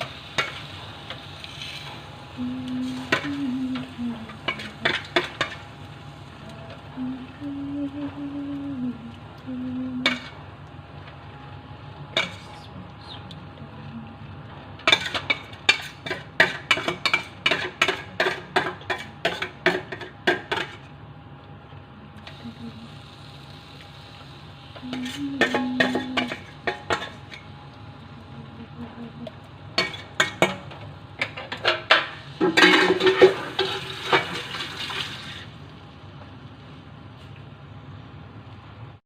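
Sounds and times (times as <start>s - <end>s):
faint kitchen hum: 0.0s - 39.0s.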